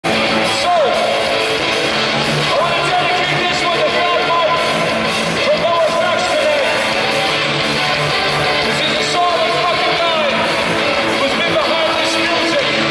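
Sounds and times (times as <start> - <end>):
punk rock band playing: 0.0 - 12.9.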